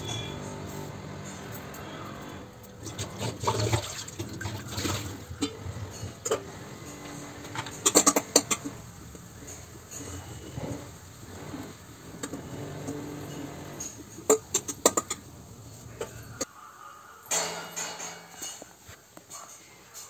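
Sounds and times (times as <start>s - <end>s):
metal pots and utensils clinking: 0.0s - 16.5s, 17.3s - 20.0s.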